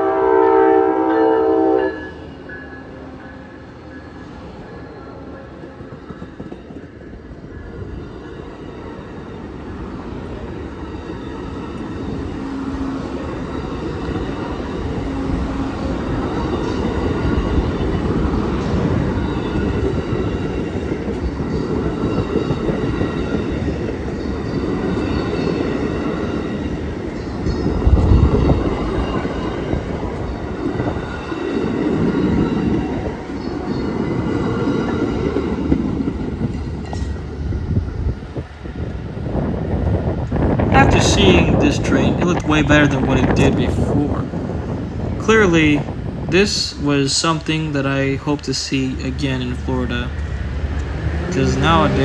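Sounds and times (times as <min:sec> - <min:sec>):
steel wheels rumbling on rail: 0:00.0 - 0:52.0.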